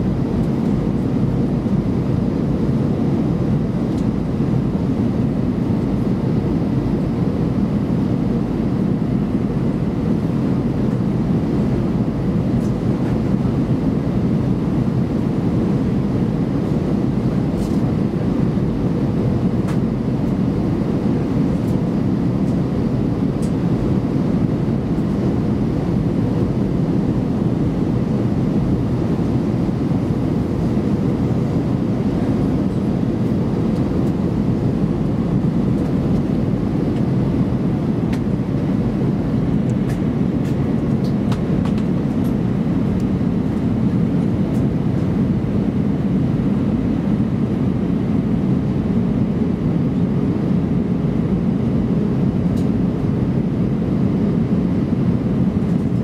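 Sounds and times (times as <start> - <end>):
airplane cabin airflow and engine noise: 0.0 - 56.0.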